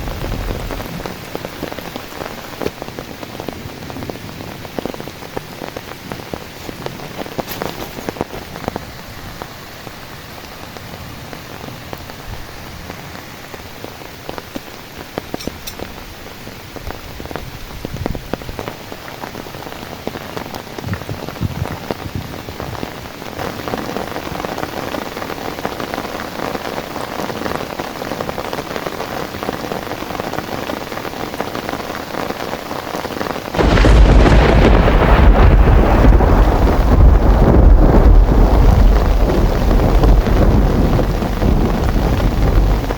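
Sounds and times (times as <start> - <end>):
heavy rain falling: 0.0 - 42.9
raindrops hitting close by: 0.0 - 42.9.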